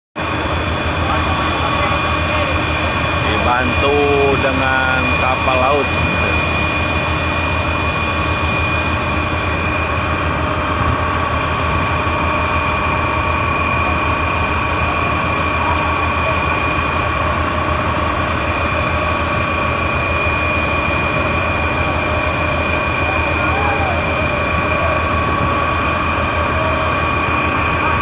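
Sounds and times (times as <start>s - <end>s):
heavy engine running: 0.2s - 28.0s
high whine: 0.2s - 28.0s.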